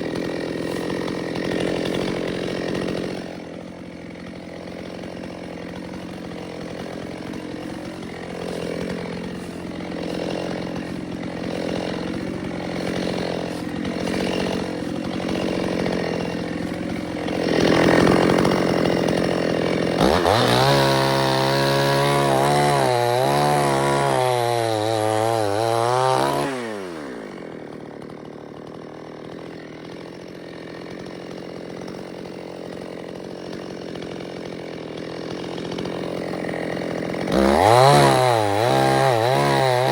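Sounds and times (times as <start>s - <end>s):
chainsaw running and cutting: 0.0s - 39.9s.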